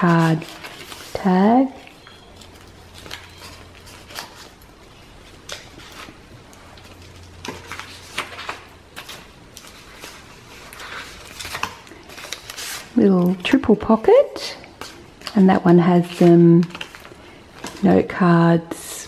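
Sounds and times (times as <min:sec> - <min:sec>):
paper pages rustling: 0:00.0 - 0:13.6, 0:14.8 - 0:18.0.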